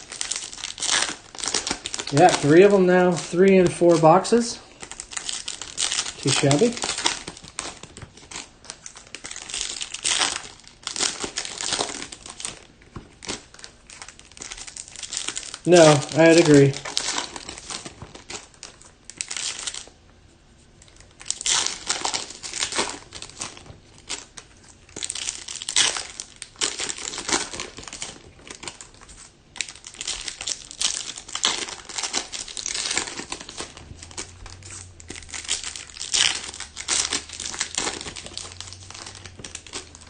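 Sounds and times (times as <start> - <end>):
foil wrappers crinkling and tearing: 0.0 - 20.0, 20.6 - 40.0.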